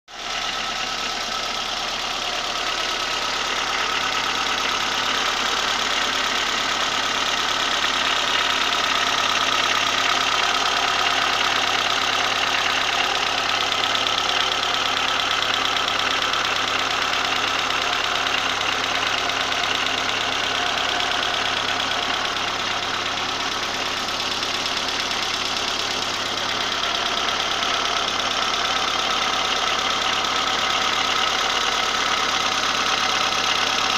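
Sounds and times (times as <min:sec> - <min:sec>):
engine idling: 0:00.1 - 0:33.9.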